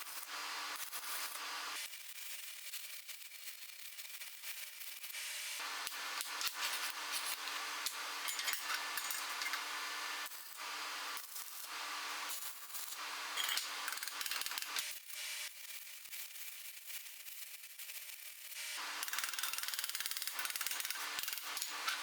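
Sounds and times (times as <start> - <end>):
welding arc crackling and hissing: 0.0 - 22.0.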